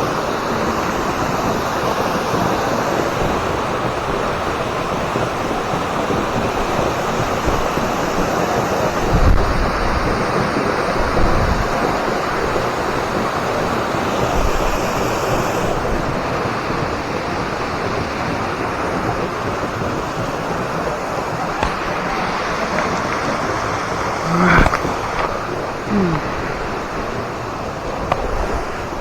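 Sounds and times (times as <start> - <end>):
waterfall rushing: 0.0 - 29.0
wind bumps on microphone: 0.3 - 29.0.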